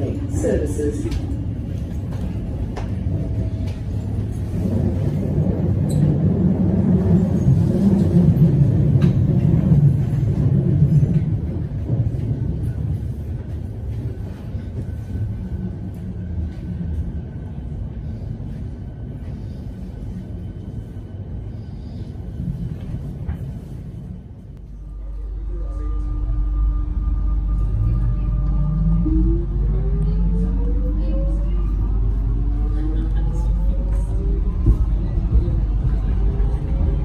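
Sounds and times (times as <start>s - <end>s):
electric train rumbling: 0.0s - 37.0s.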